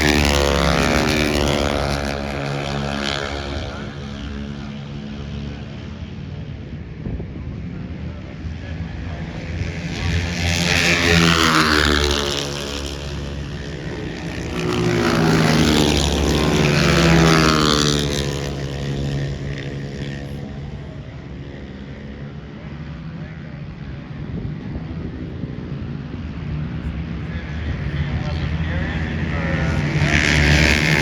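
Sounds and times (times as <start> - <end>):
racing engines passing by: 0.0 - 31.0.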